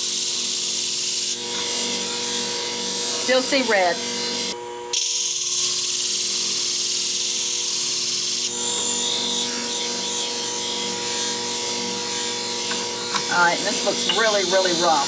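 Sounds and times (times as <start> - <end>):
blade grinding on spinning disc: 0.0 - 15.0
sharpening machine motor hum: 0.0 - 15.0.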